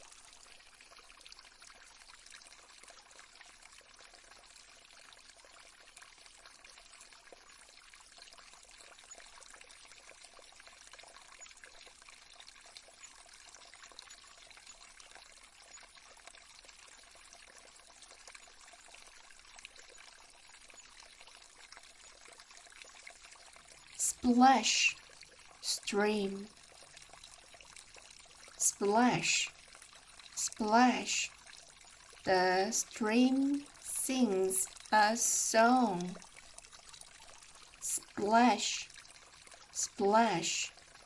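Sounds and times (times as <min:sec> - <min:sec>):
small stream trickling: 0:00.0 - 0:41.0.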